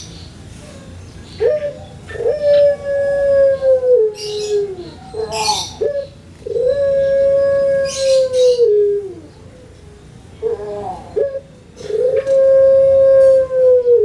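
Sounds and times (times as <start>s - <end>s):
dove cooing: 0.8s - 14.0s.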